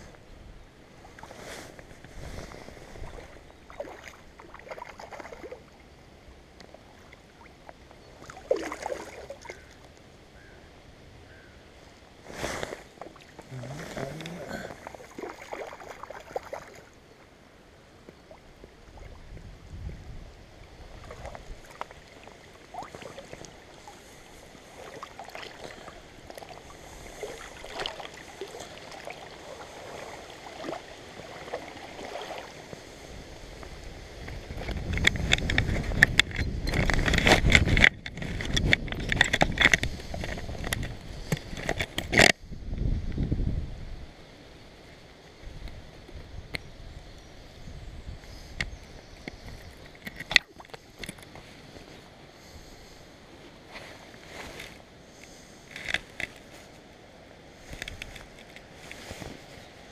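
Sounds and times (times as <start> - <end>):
moving water: 0.0 - 59.9.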